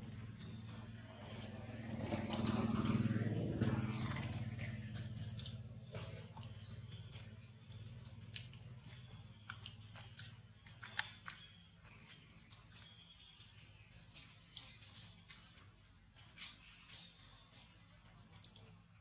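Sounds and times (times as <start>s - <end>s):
low engine hum: 0.0s - 16.1s.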